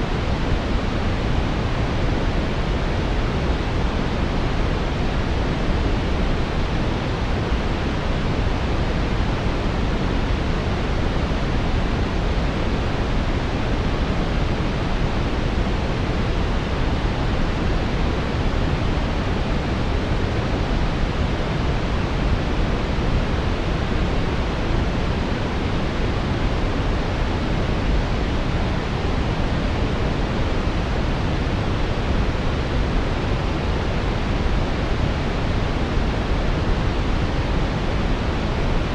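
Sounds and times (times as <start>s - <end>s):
brown noise: 0.0s - 38.9s.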